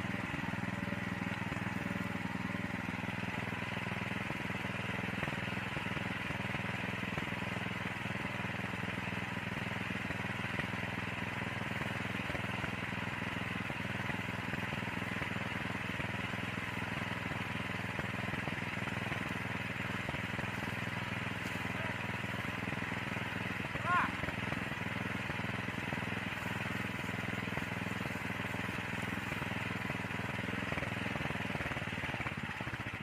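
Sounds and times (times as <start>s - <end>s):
small engine running steadily: 0.0s - 33.0s.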